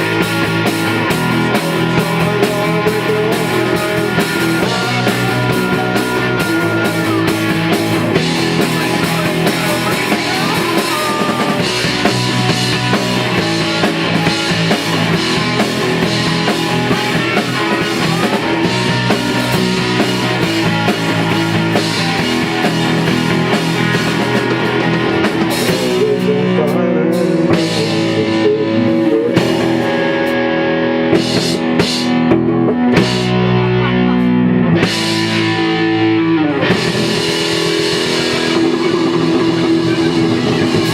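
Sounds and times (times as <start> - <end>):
drum and cymbal hits: 0.0 - 26.6, 31.2 - 33.6, 36.7 - 40.9
rock band playing live: 0.0 - 40.9.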